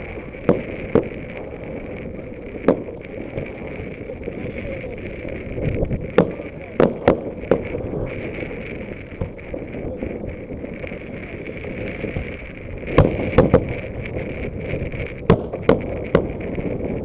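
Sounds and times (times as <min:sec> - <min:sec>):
background noise: 0:00.0 - 0:17.0
fireworks bangs: 0:00.0 - 0:17.0.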